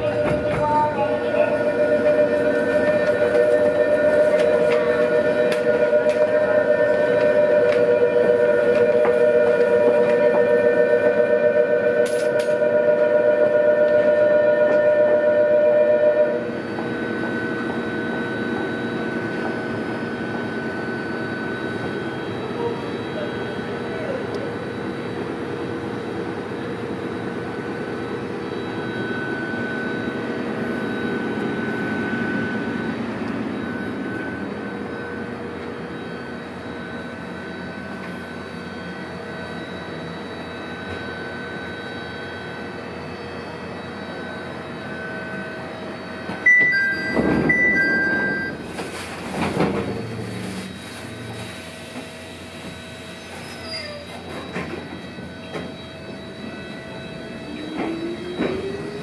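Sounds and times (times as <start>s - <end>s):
two-note tone: 0.0s - 24.7s, 27.6s - 51.4s, 53.7s - 59.0s
train rumble with motor hum: 0.0s - 59.0s.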